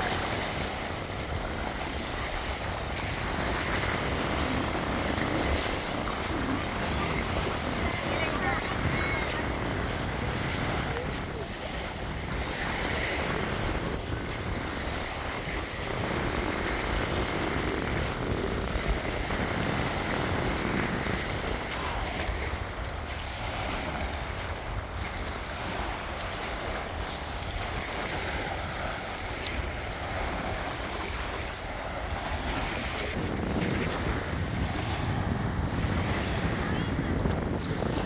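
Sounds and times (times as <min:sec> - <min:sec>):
sea waves washing on shore: 0:00.0 - 0:38.0
wind buffeting microphone: 0:00.0 - 0:38.0.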